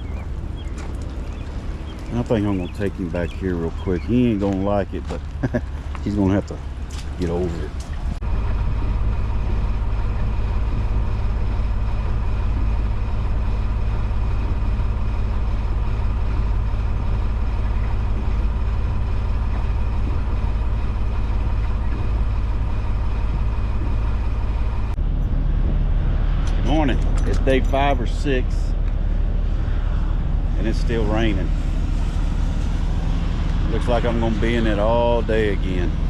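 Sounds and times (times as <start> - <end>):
diesel truck engine droning: 0.0 - 36.0
faint engine whine: 0.0 - 36.0.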